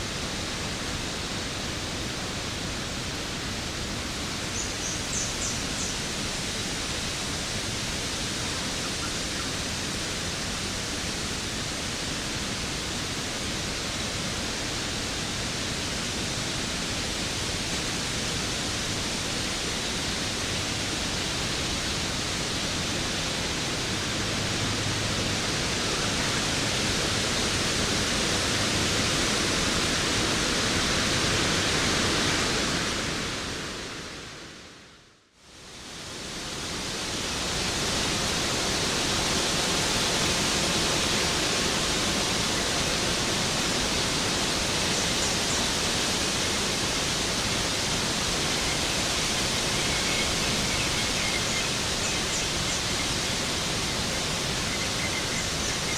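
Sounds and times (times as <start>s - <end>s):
waterfall rushing: 0.0s - 34.4s, 35.8s - 55.9s.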